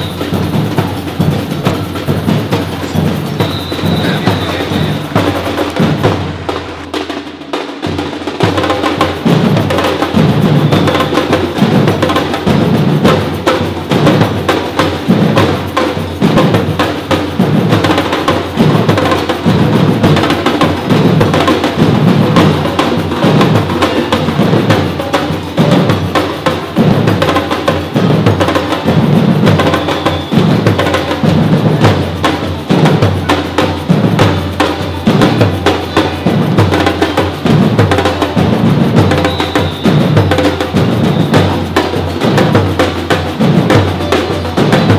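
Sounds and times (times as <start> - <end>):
hand percussion strokes: 0.0 - 6.9, 8.5 - 44.9
deep drums beating: 0.0 - 44.9.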